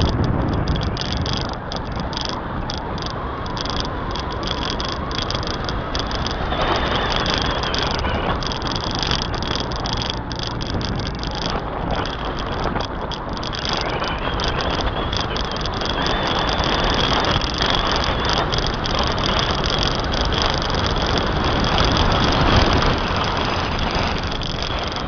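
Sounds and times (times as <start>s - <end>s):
wind and road noise: 0.0s - 25.0s.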